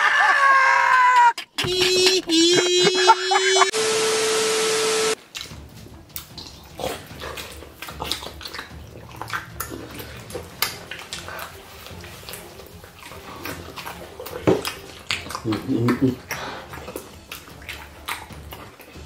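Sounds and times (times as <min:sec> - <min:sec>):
people chewing and smacking: 0:00.2 - 0:03.0, 0:05.2 - 0:19.0.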